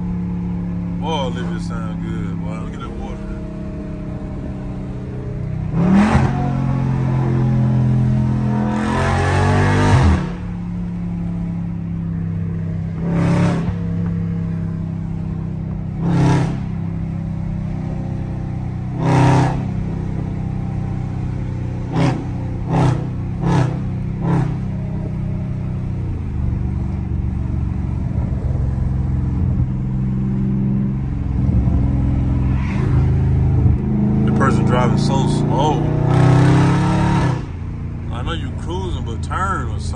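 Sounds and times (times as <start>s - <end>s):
car exhaust droning: 0.0s - 39.9s.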